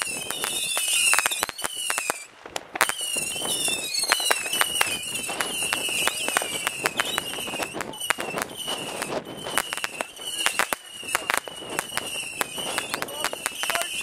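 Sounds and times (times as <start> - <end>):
firecracker bangs and cracks: 0.0 - 14.0.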